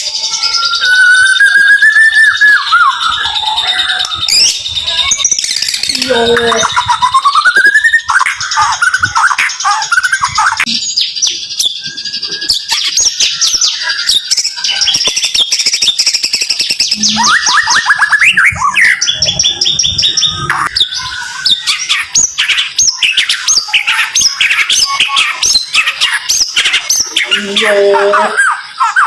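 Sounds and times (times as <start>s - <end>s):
songbird singing rapid song: 0.0s - 29.0s.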